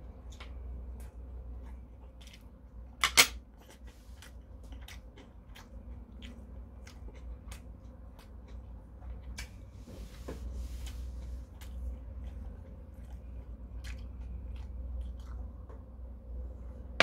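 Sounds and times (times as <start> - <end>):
person chewing food: 0.0 - 9.9, 10.6 - 16.5.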